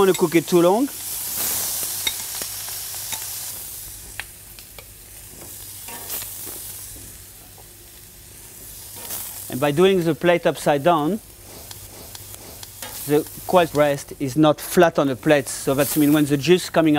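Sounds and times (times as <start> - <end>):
meat sizzling on a grill: 0.0 - 16.9.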